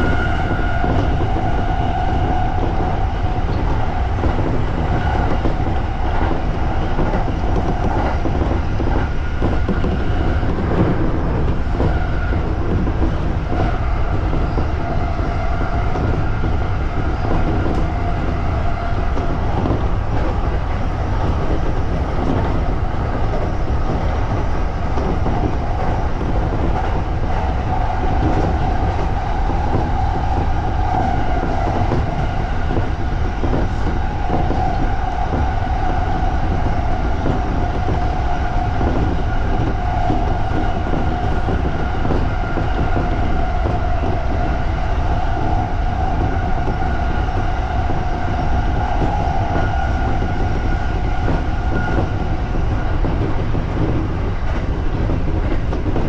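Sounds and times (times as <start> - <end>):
train wheels rumbling on rail: 0.0 - 56.0
train whine: 0.0 - 56.0.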